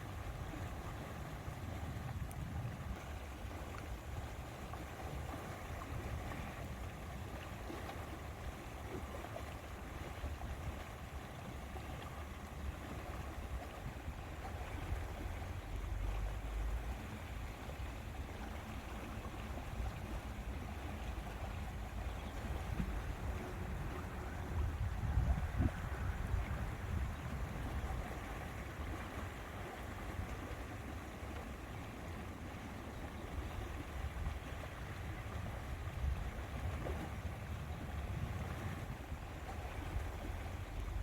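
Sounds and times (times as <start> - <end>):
lapping lake water: 0.0 - 41.0
wind rumbling on microphone: 0.0 - 41.0.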